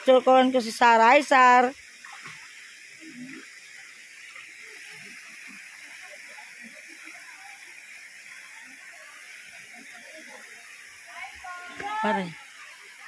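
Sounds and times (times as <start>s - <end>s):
water pouring into pool: 1.4s - 13.0s.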